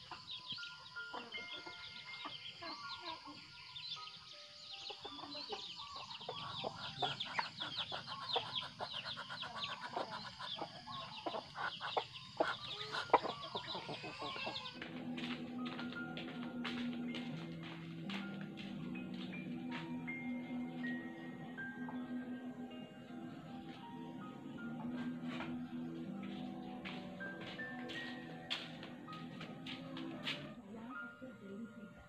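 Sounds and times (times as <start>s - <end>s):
chickens clucking: 0.0s - 3.9s, 4.7s - 30.9s
music: 0.0s - 32.0s.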